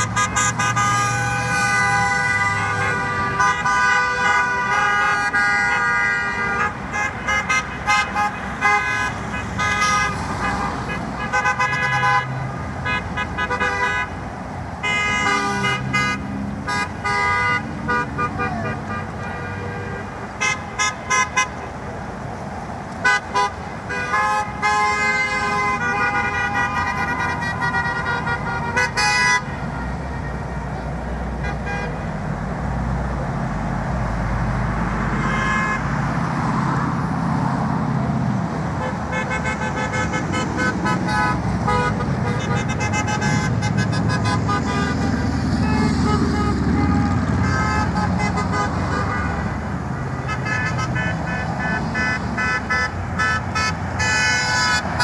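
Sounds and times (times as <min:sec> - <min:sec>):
car horns honking: 0:00.0 - 0:22.0, 0:22.9 - 0:32.3, 0:34.7 - 0:37.4, 0:38.4 - 0:55.0
road traffic noise: 0:00.0 - 0:55.0.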